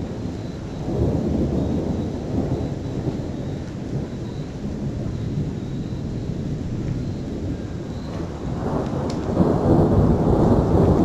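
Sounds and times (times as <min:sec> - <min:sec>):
rolling thunder: 0:00.0 - 0:11.0.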